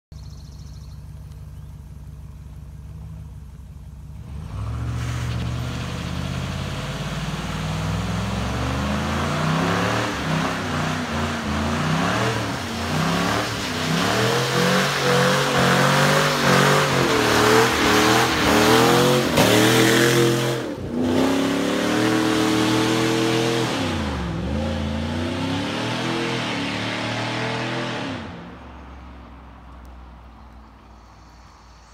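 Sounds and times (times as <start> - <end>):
pickup engine accelerating hard: 2.0 - 29.0.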